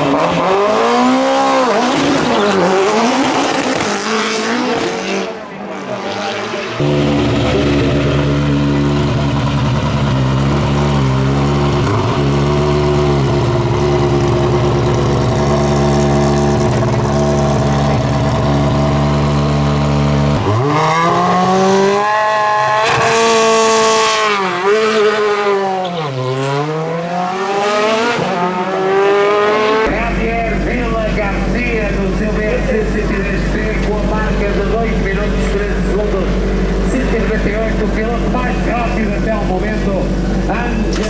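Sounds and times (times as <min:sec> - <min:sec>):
race car engine revving: 0:00.0 - 0:41.0.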